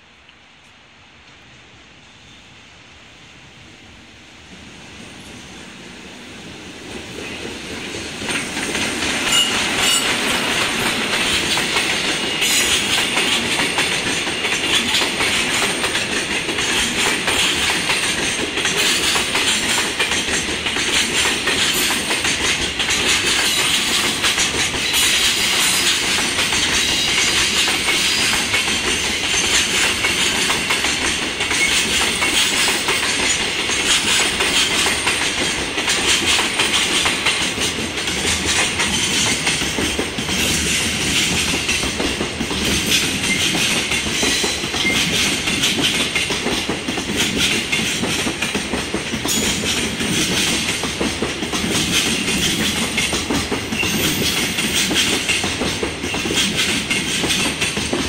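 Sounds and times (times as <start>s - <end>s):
locomotive passing: 4.5s - 58.0s
wheels clattering over rail joints: 7.2s - 58.0s.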